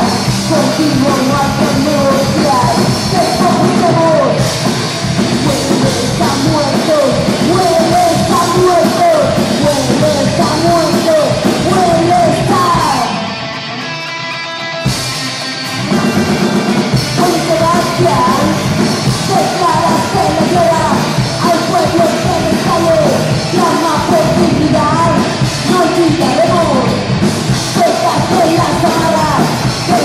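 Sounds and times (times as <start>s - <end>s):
woman singing and yelling: 0.0s - 4.5s, 5.4s - 13.3s, 17.2s - 27.0s, 27.7s - 30.0s
bass guitar: 0.0s - 30.0s
drum kit: 0.0s - 30.0s
electric guitar: 0.0s - 30.0s.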